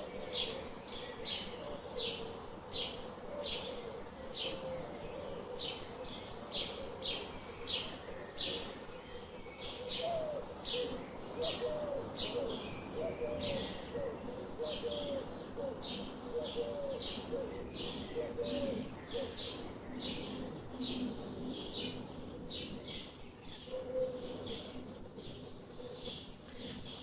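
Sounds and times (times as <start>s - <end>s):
birds chirping: 0.0s - 27.0s
birds cooing: 0.0s - 27.0s.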